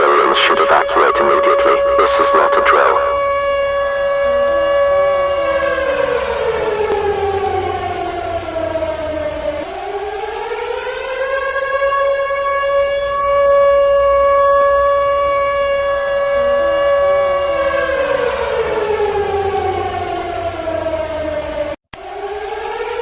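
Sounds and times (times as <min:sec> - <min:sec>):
civil defense siren wailing: 0:00.0 - 0:23.0.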